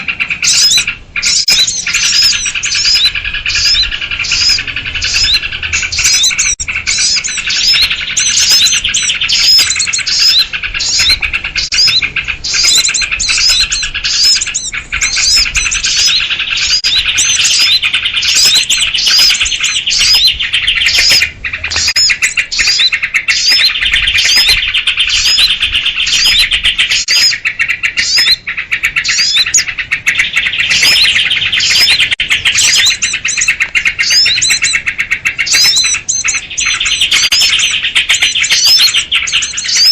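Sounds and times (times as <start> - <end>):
songbirds chirping and chattering: 0.0 - 39.9.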